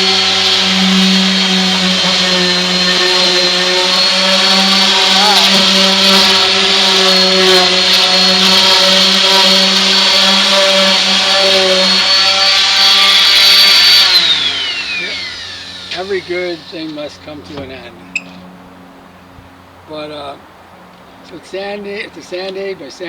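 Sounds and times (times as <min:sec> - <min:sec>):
electric orbital sander running: 0:00.0 - 0:19.6.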